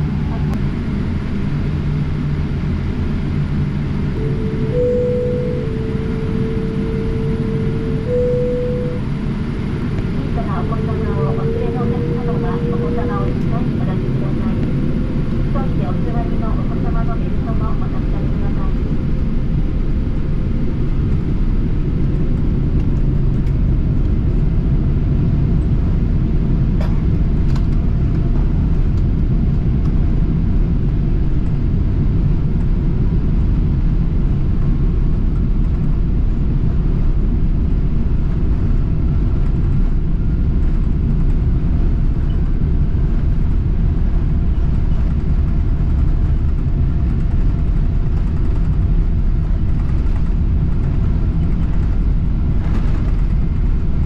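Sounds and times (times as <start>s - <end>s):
jet airliner rumble: 0.0s - 54.0s.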